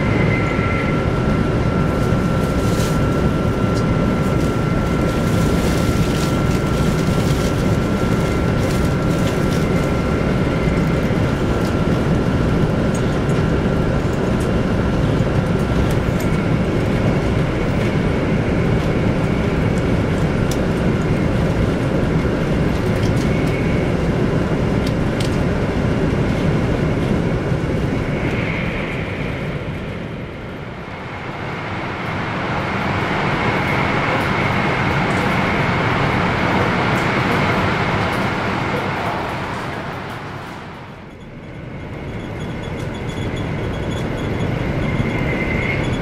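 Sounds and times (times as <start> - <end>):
faint whine: 0.0 - 46.0
train cabin wheel and wind noise: 0.0 - 46.0.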